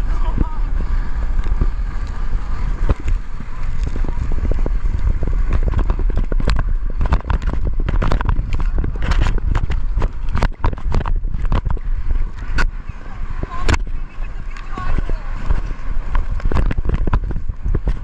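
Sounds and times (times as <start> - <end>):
low rumble of wind: 0.0 - 18.0
tube slapping on waves: 0.0 - 18.0
water splashing: 0.0 - 18.0.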